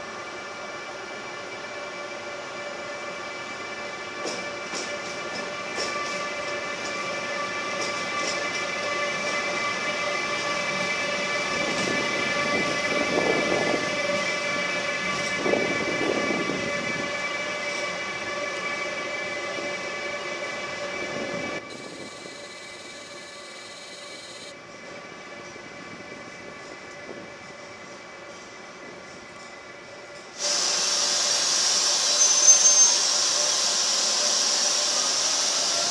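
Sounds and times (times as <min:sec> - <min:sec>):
electric locomotive whine: 0:00.0 - 0:35.9
train wheels noise: 0:00.0 - 0:35.9.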